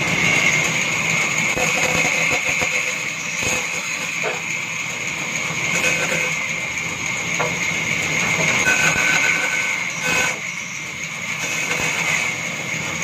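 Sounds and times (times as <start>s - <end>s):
band saw cutting wood: 0.0s - 13.0s.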